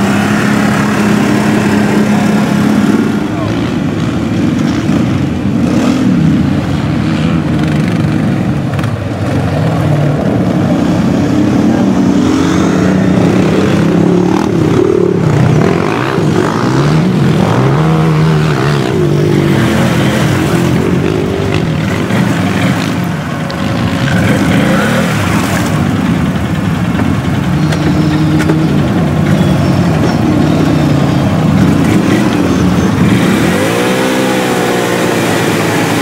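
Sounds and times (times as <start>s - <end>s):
quad engine revving: 0.0s - 36.0s.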